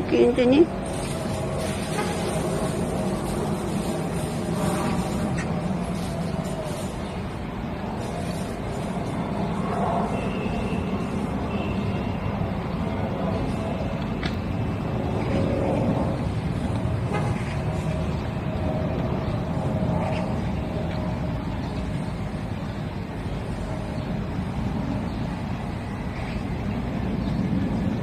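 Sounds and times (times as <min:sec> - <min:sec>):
low rumble of vehicle engines: 0:00.0 - 0:28.0.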